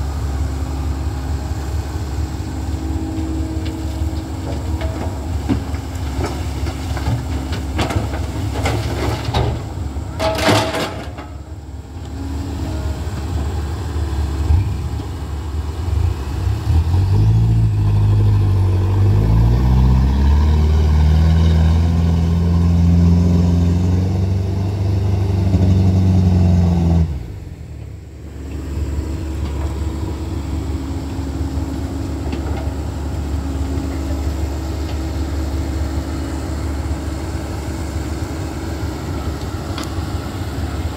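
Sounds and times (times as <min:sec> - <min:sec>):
excavator engine running: 0:00.0 - 0:19.4, 0:22.4 - 0:40.9
dump truck diesel engine pulling: 0:00.0 - 0:40.9.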